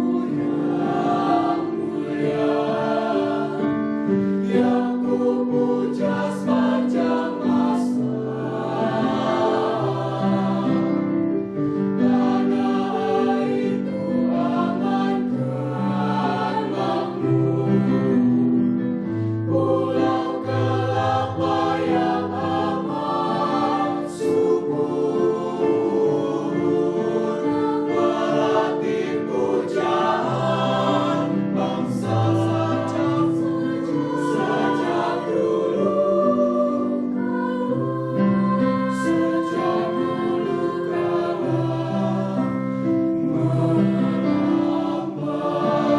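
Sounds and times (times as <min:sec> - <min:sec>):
choir singing in harmony: 0:00.0 - 0:45.9.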